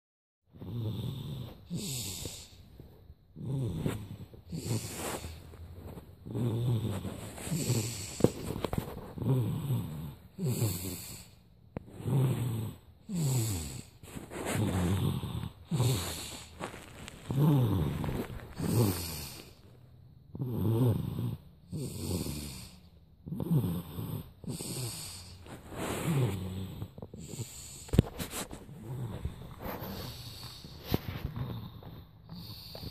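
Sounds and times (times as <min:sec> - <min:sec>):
heavy rattling snoring: 0:00.5 - 0:32.9.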